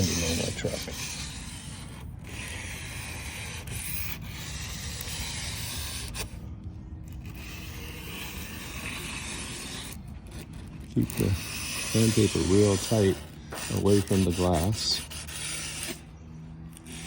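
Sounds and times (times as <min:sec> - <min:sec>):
emery cloth sanding metal: 0:00.0 - 0:06.3, 0:07.2 - 0:16.1.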